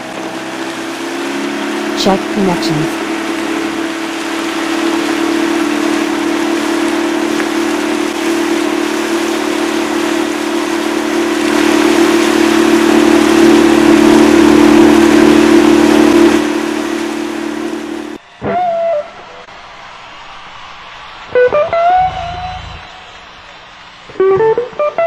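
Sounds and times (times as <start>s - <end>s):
motorboat engine humming: 0.0s - 25.0s.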